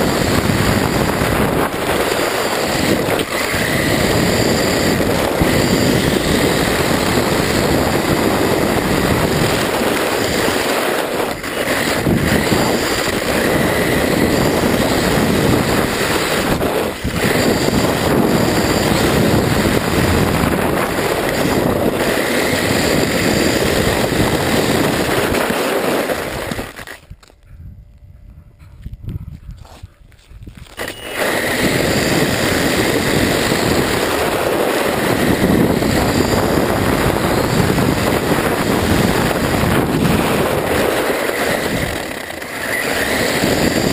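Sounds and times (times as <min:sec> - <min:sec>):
rc truck driving fast: 0:00.0 - 0:27.1, 0:30.8 - 0:43.9.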